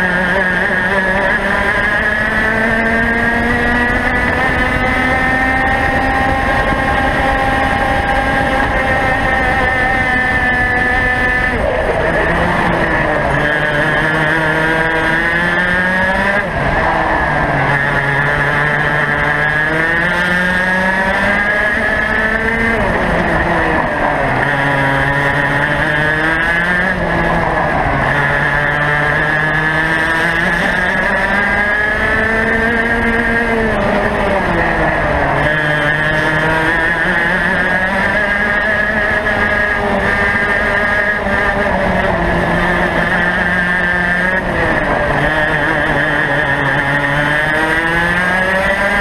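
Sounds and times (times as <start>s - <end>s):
kart engine revving: 0.0s - 49.0s.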